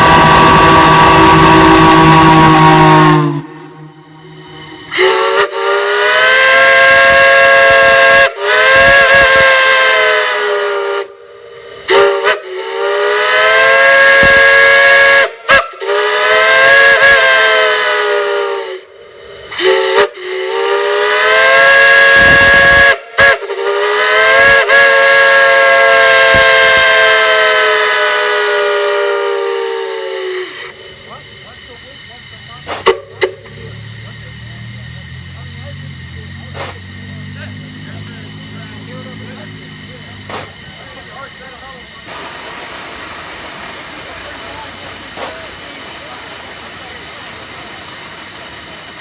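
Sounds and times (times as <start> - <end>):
hiss of escaping gas: 0.0 - 49.0.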